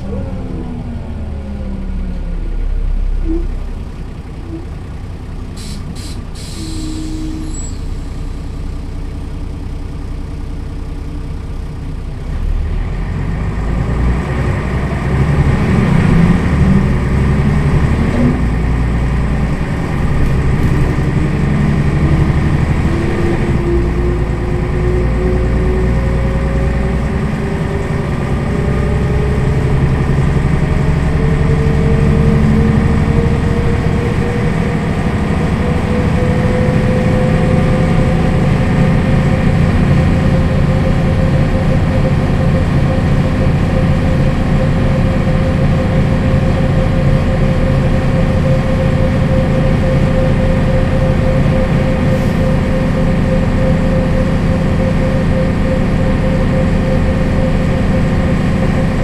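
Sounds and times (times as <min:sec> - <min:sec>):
bus engine idling and accelerating: 0:00.0 - 0:59.0
drivetrain whine: 0:00.0 - 0:59.0.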